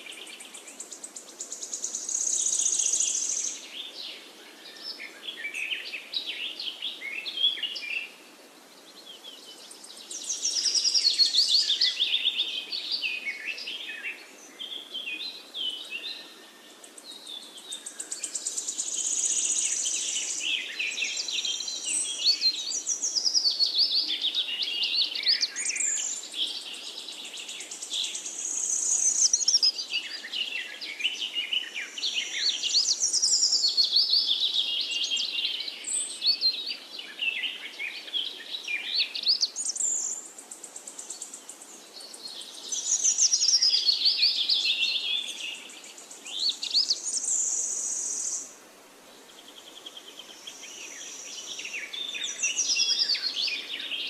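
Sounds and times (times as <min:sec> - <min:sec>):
birds singing: 0:00.0 - 0:08.2, 0:08.8 - 0:48.6, 0:49.2 - 0:54.0
faint background hiss: 0:00.0 - 0:54.0.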